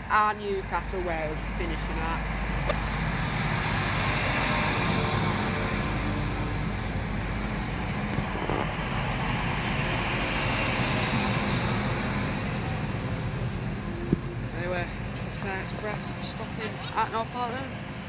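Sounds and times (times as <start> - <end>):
train engines humming: 0.0 - 18.0.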